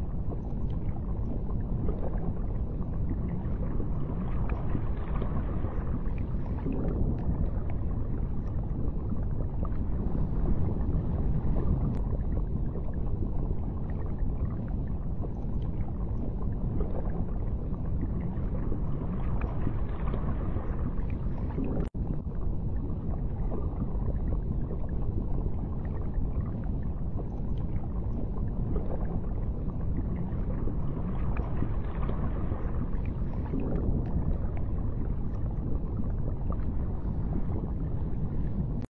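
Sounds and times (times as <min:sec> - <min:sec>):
underwater rumble and wash: 0:00.0 - 0:38.9.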